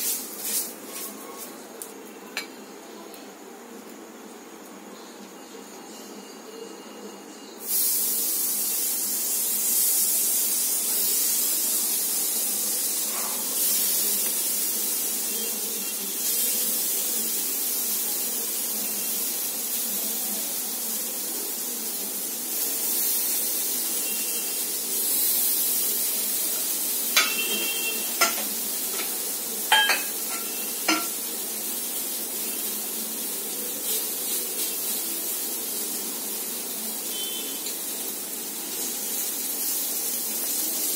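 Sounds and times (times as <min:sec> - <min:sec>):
food sizzling on a griddle: 0:00.0 - 0:40.9.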